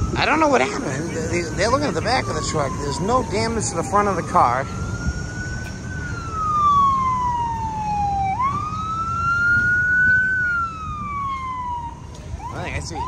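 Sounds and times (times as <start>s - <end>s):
wailing siren: 0.0s - 13.0s.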